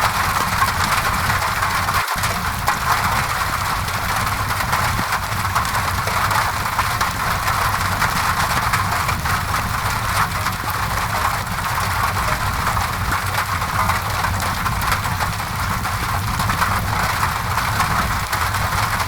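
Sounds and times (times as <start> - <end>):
rain on a window: 0.0 - 19.0
wood fire crackling: 0.0 - 19.0.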